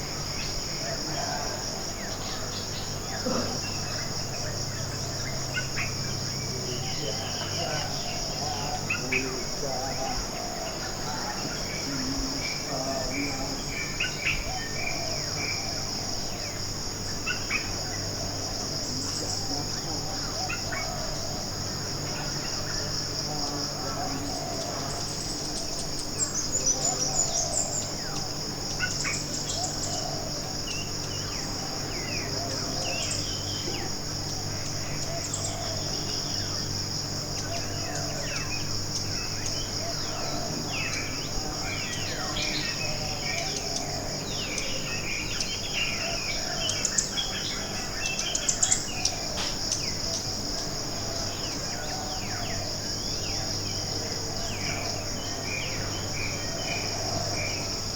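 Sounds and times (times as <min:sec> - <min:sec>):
high-pitched insect chorus: 0:00.0 - 0:57.9
steady low hum: 0:00.0 - 0:57.9.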